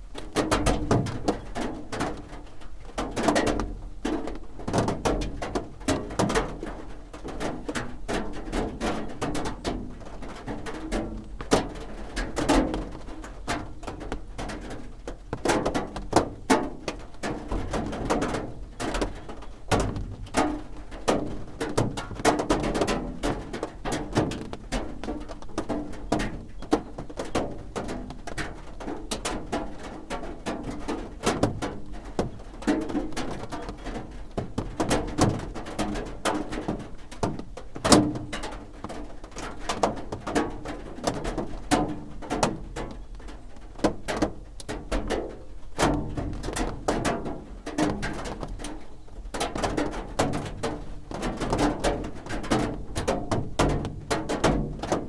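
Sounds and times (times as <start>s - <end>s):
rain drumming on a roof: 0.0s - 55.0s.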